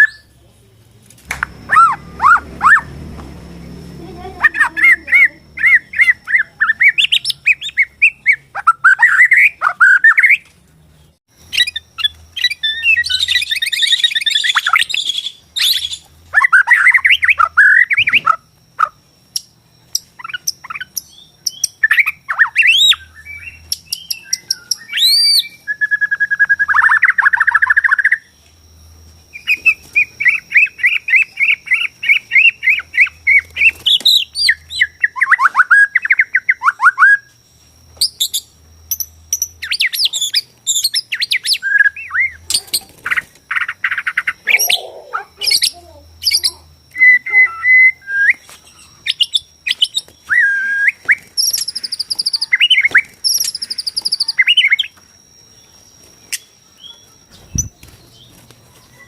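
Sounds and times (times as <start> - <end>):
songbird singing whistled trills: 4.2 - 10.4, 11.0 - 28.5, 29.3 - 37.4, 38.0 - 59.0.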